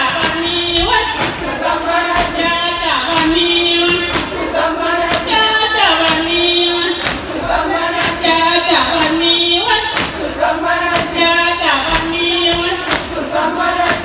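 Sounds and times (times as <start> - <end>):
sharp percussive beat: 0.0 - 14.0
women singing together: 0.0 - 14.0.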